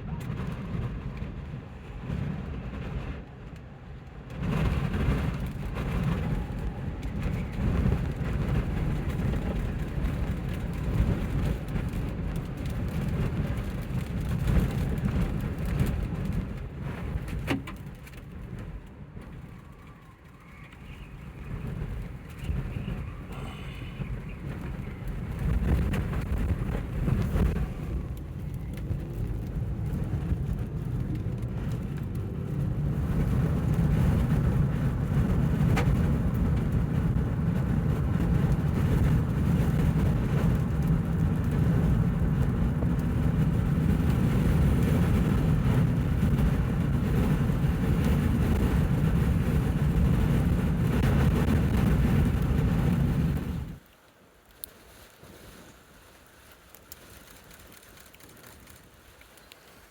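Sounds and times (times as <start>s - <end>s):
wind buffeting microphone: 0.0s - 53.8s.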